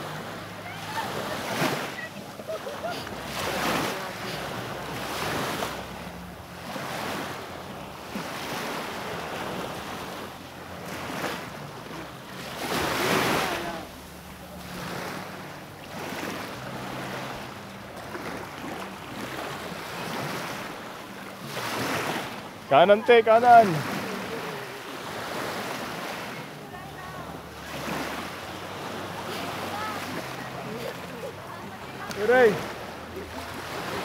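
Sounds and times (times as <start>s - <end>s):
small waves washing onto beach: 0.0s - 34.0s.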